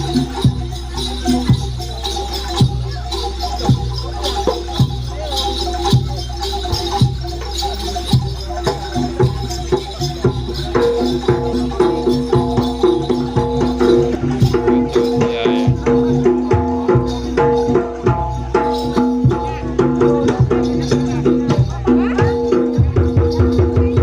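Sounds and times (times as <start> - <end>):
fast dense drumming: 0.0 - 24.0.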